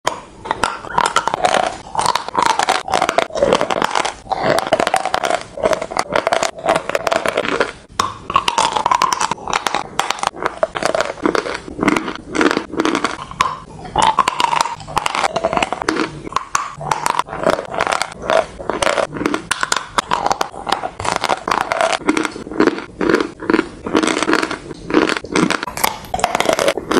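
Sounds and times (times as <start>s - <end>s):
chewing crunchy chalk: 0.1s - 26.9s.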